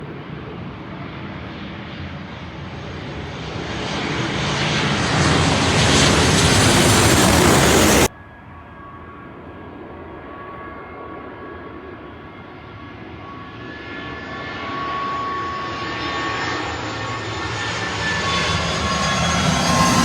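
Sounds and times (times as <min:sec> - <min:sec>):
airplane passing overhead: 0:00.0 - 0:20.0.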